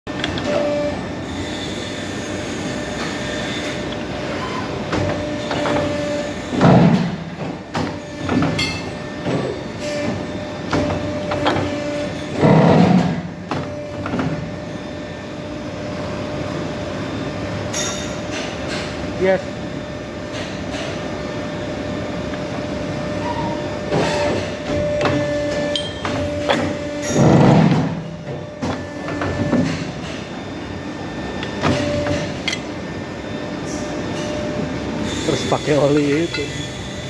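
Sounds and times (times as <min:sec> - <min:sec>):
pipe bending machine hum: 0:00.1 - 0:18.4, 0:19.6 - 0:37.0.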